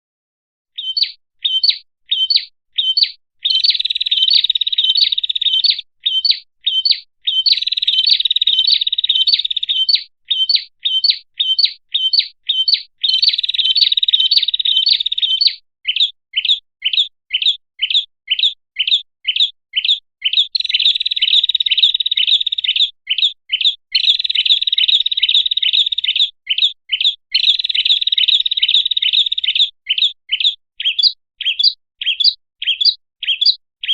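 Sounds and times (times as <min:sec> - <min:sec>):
bird chirps: 0:00.8 - 0:33.9.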